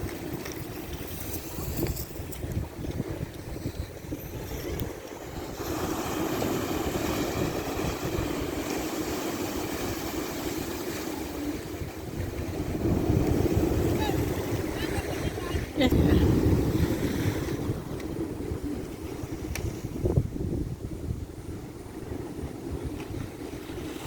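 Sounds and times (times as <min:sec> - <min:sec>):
wind buffeting microphone: 0:00.0 - 0:24.0
ocean waves washing in: 0:03.6 - 0:24.0.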